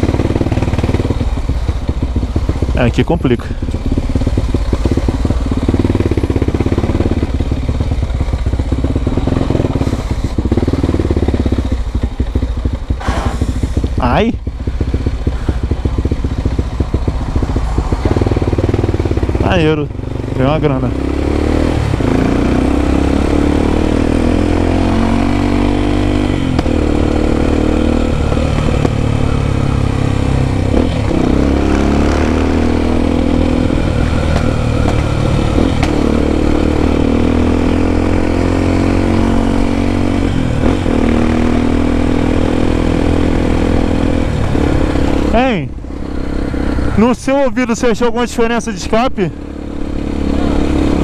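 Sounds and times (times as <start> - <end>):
motorcycle engine revving through gears: 0.0 - 51.0.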